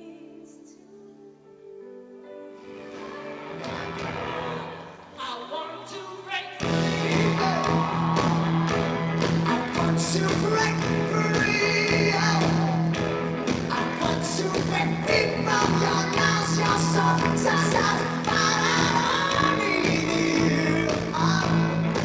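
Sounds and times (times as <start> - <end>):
person singing: 0.0 - 22.0
live rock band playing: 2.6 - 5.3, 6.6 - 22.0.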